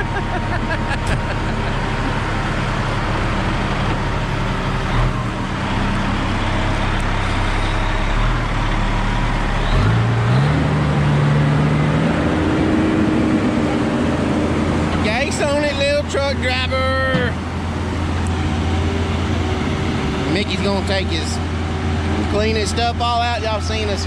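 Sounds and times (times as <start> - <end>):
truck diesel engine revving: 0.0 - 24.0.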